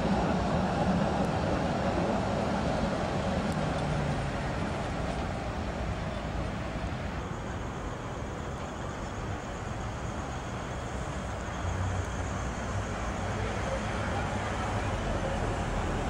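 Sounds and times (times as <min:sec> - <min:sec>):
road traffic: 0:00.0 - 0:16.0
tram humming: 0:00.0 - 0:16.0.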